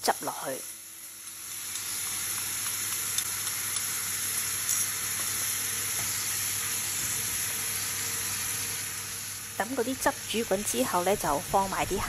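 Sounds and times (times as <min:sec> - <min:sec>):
sauce sizzling in frying pan: 0:00.0 - 0:12.0.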